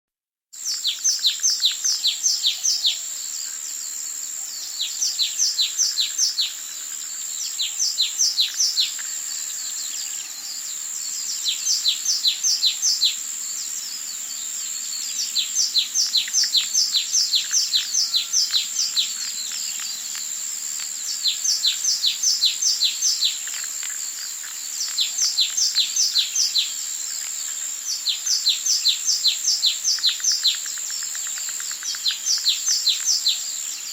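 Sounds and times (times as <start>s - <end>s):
songbirds singing: 0.6s - 33.9s.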